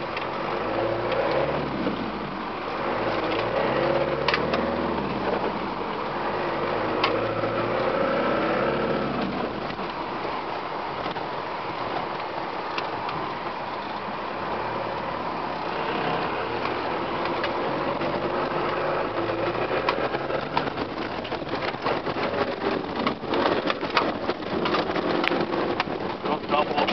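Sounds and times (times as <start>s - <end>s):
off-road vehicle engine driving: 0.0s - 26.9s
sharp clicks and rattles: 0.0s - 26.9s.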